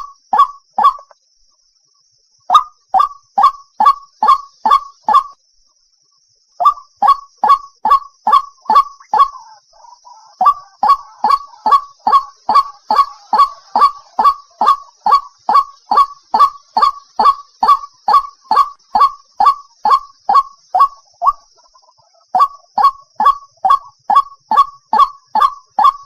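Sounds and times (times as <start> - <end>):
soft bird chatter: 0.0 - 26.0.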